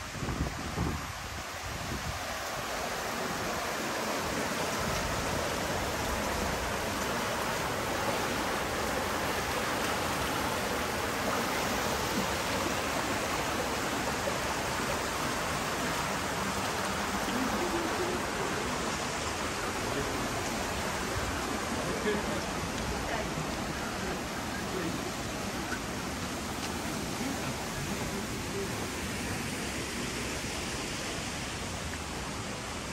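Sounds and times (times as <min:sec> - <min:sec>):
stream babbling over rocks: 0:00.0 - 0:32.9.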